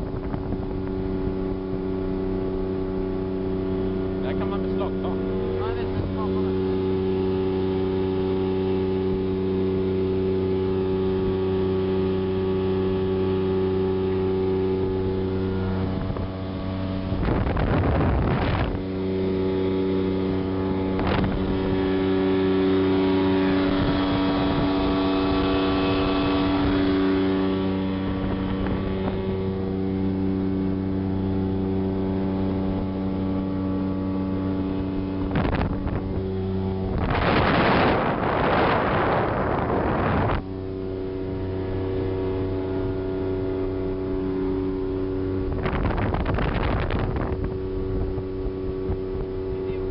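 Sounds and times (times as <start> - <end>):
outboard motor running: 0.0 - 49.9
water rushing past hull: 0.0 - 49.9.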